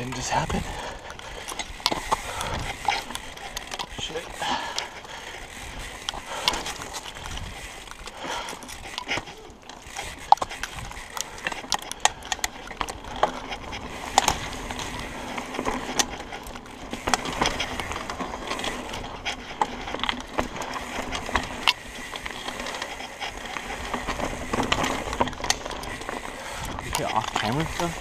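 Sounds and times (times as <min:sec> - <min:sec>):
bike clicking and rattling: 0:00.0 - 0:28.0
bike tyres on dirt and rocks: 0:00.0 - 0:28.0.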